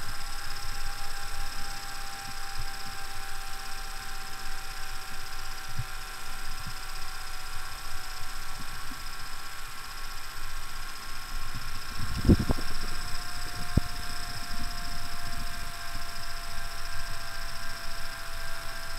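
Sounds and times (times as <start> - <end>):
video recorder mechanical whir: 0.0 - 18.9.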